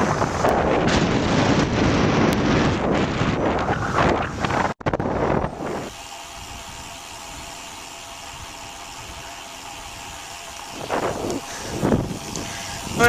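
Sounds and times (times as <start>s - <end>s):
wind buffeting microphone: 0.0s - 7.4s, 10.0s - 13.0s
engine running steadily: 0.0s - 13.0s.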